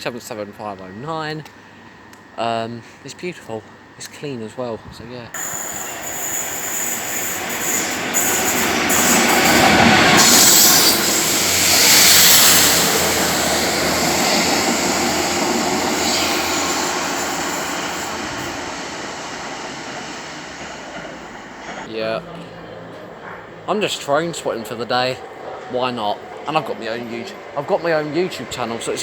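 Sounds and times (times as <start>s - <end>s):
electric train moving: 5.4s - 29.0s.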